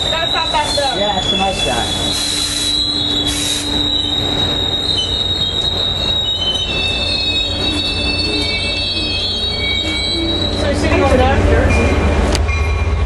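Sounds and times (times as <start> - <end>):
train rumble: 0.0 - 13.0
train wheels squealing: 0.0 - 13.0.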